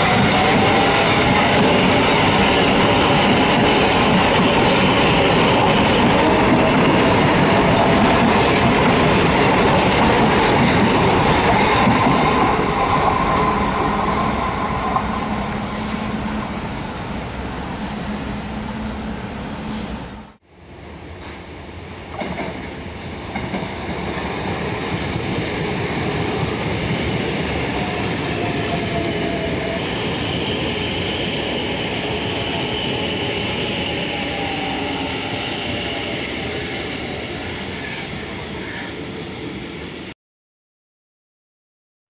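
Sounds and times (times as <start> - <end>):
train wheels rumbling on rails: 0.0 - 40.1.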